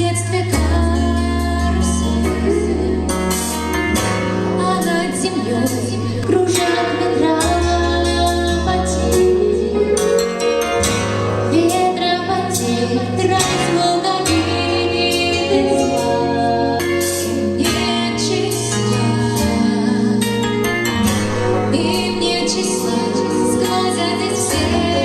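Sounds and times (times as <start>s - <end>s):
woman singing: 0.0s - 3.6s, 4.5s - 10.8s, 11.5s - 25.0s
bass line: 0.0s - 25.0s.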